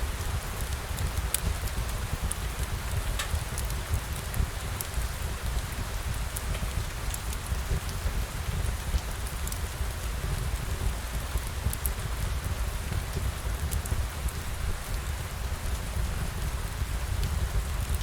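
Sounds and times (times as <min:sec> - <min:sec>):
steady rain hiss: 0:00.0 - 0:18.0
raindrop ticks: 0:00.2 - 0:15.8, 0:16.4 - 0:18.0.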